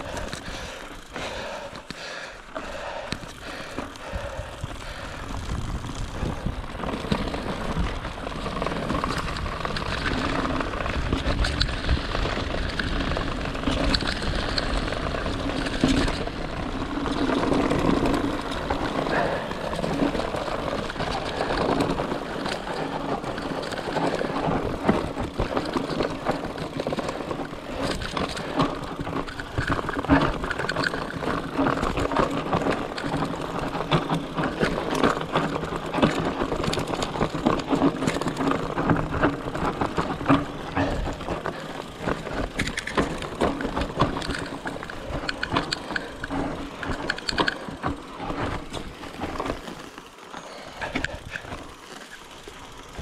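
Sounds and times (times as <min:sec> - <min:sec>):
bike knocking and clattering: 0:00.0 - 0:53.0
tyre noise on rough trail: 0:00.0 - 0:53.0.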